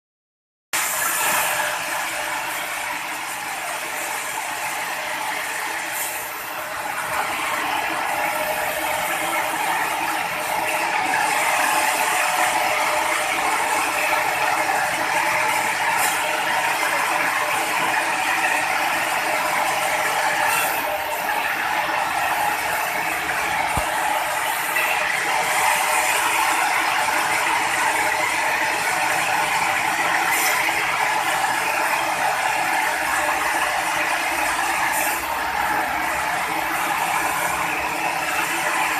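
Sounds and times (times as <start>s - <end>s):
sawmill machinery running: 0.8s - 38.9s.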